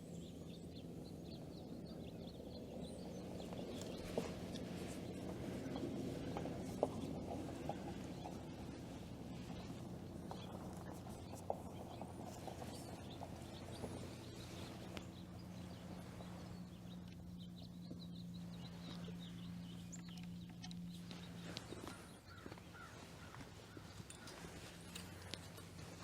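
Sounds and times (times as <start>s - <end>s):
cattle moving and grazing: 0.0s - 26.0s
steady low hum: 0.0s - 26.0s.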